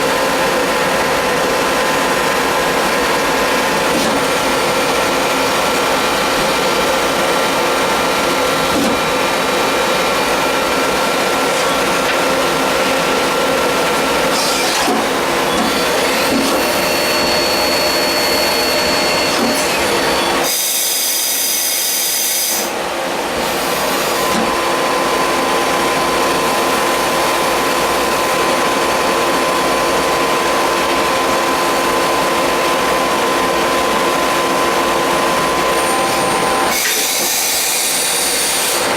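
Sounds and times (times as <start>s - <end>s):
lathe machining metal: 0.0s - 38.9s.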